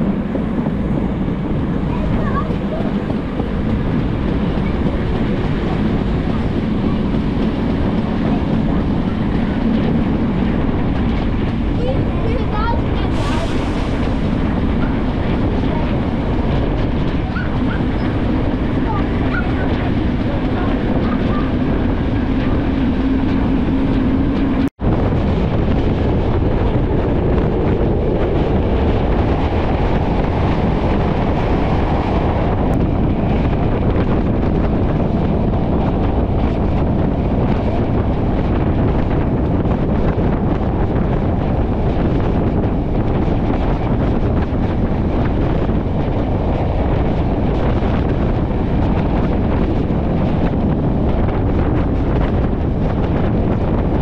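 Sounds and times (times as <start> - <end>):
passenger train rumble: 0.0 - 54.0
wind buffeting microphone: 0.0 - 54.0.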